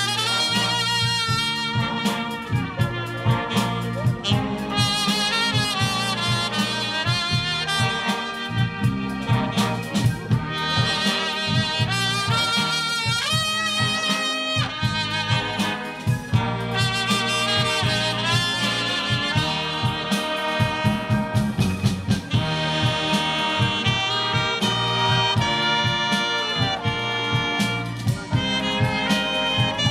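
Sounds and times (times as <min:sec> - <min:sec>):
electric guitar: 0:00.0 - 0:29.9
saxophones: 0:00.0 - 0:29.9
steady drum beat: 0:00.0 - 0:29.9
trombones: 0:00.0 - 0:29.9
trumpet: 0:00.0 - 0:29.9.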